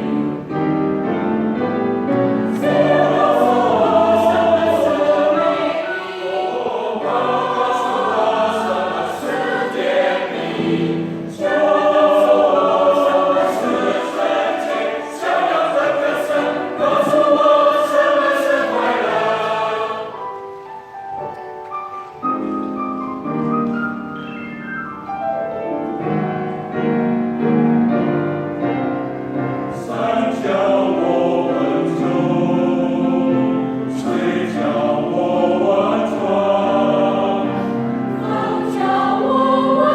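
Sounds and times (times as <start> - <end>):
choir singing sacred piece: 0.0 - 21.4, 25.8 - 39.9.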